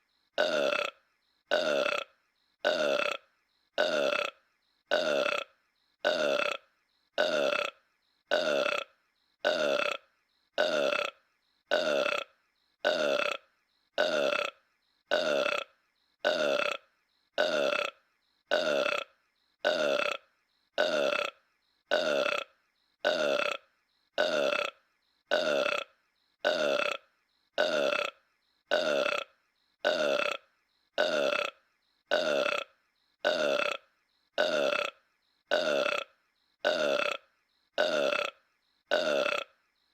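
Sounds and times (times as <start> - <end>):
cartoon burp: 0.4 - 39.6.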